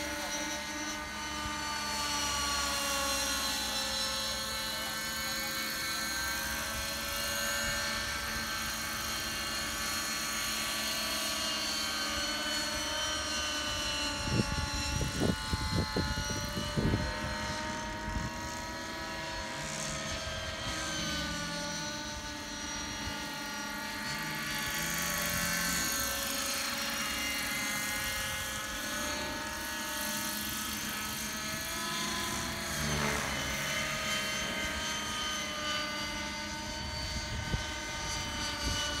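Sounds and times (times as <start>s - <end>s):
model helicopter rotor whine: 0.0s - 39.0s.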